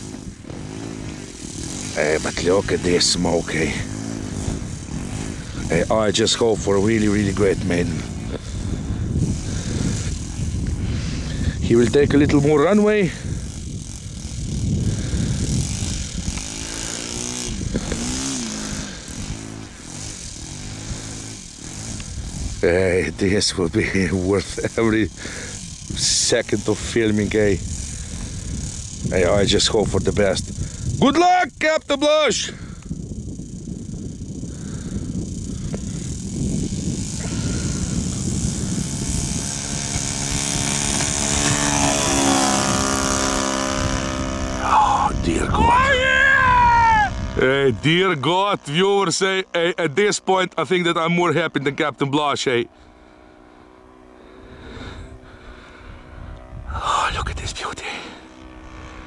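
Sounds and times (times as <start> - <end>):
model airplane engine running: 0.0 - 59.0.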